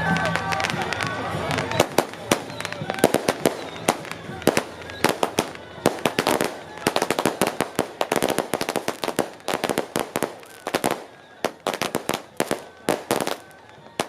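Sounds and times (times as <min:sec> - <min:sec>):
firecrackers banging: 0:00.0 - 0:14.0.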